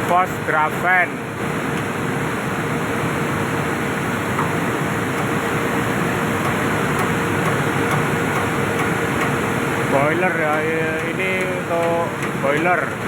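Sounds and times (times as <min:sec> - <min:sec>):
boiler plant machinery noise: 0:00.0 - 0:13.0
constant hum: 0:00.0 - 0:13.0.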